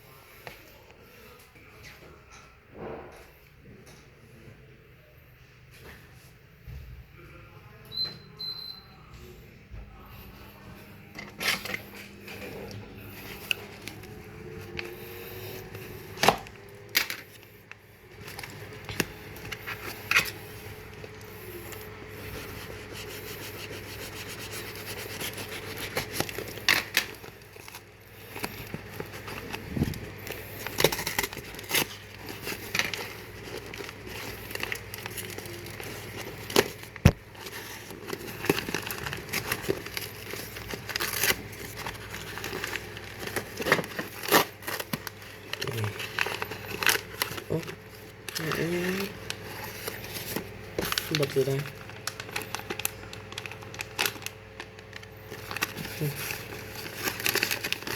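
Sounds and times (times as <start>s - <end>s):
packaging crinkling and tearing: 11.2s - 57.9s.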